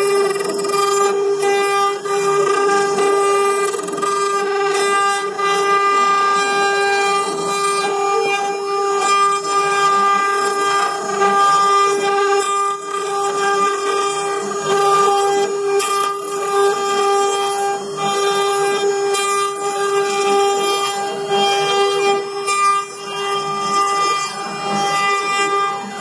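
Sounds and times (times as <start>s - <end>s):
rough wood cutting noise: 0.0s - 26.0s
router spindle whine: 0.0s - 26.0s.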